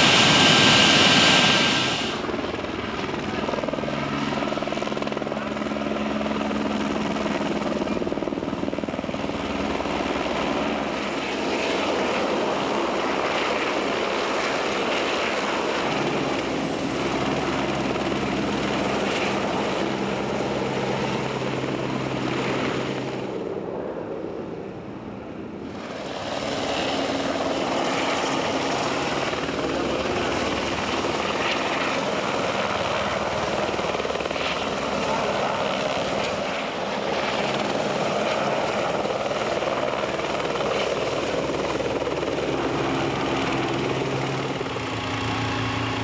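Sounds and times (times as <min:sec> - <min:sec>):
helicopter rotor and turbine: 0:00.0 - 0:46.0.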